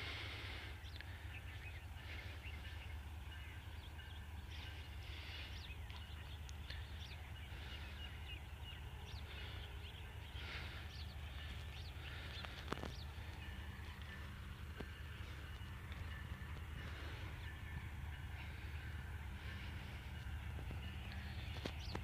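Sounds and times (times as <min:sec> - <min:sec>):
steady low rumble: 0:00.0 - 0:22.0
small birds chirping: 0:00.2 - 0:22.0.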